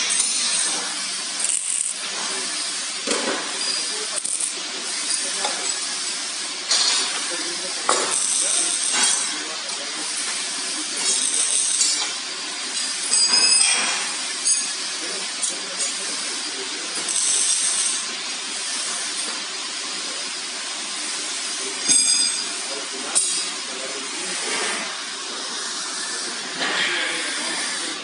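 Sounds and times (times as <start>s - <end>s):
workshop background noise: 0.0s - 28.0s.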